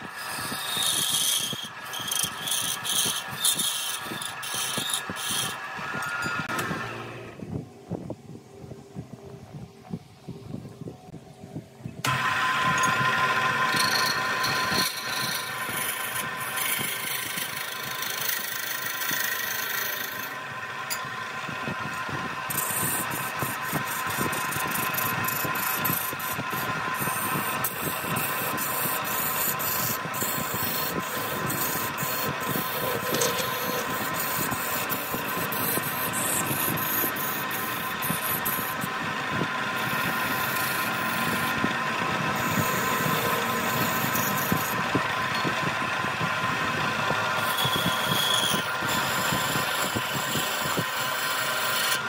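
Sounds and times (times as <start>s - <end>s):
turning tool scraping wood: 0.0s - 7.2s, 12.0s - 52.0s
wood lathe motor hum: 0.0s - 7.4s, 12.0s - 52.0s.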